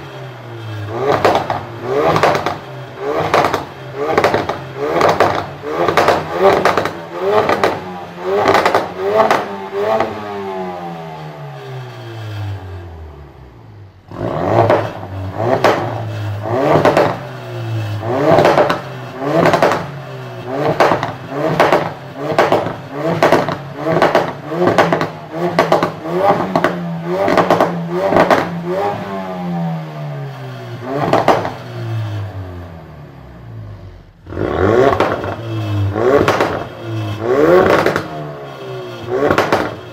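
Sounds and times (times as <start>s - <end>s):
car exhaust revving with cracks and pops: 0.0s - 39.9s.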